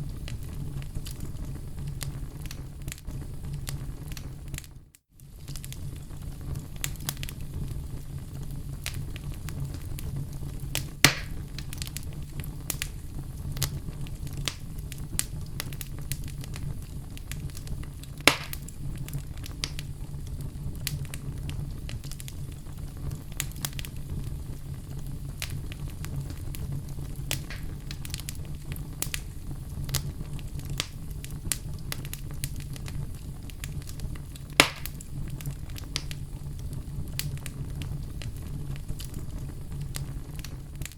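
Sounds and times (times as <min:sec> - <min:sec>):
fire crackling: 0:00.0 - 0:40.9
loud fire pops: 0:00.0 - 0:40.9.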